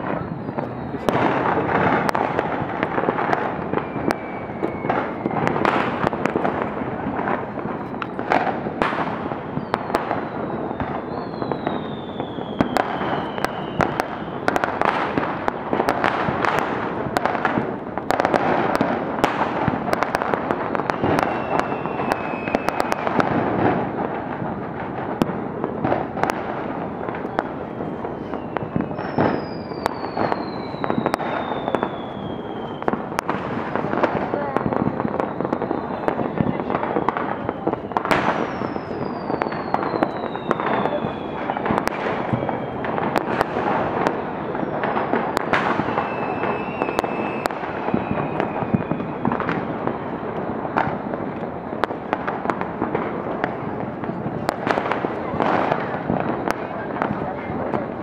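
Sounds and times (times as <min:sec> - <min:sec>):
falling firework whistles: 0:00.0 - 0:58.0
fireworks crackling and banging: 0:00.0 - 0:58.0.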